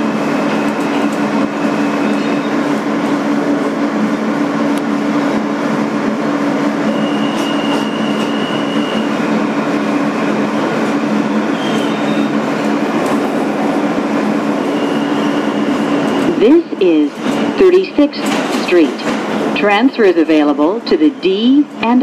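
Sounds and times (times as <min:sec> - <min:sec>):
subway train rumbling on track: 0:00.0 - 0:22.0.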